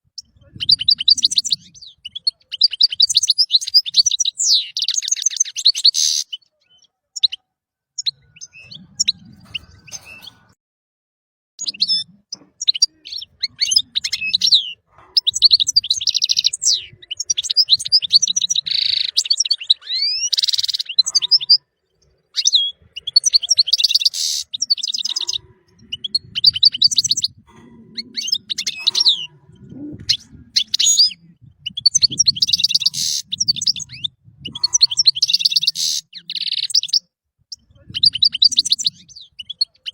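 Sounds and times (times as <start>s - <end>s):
goldfinch chirps and trills: 0.2s - 7.4s, 11.6s - 27.4s, 28.0s - 39.9s.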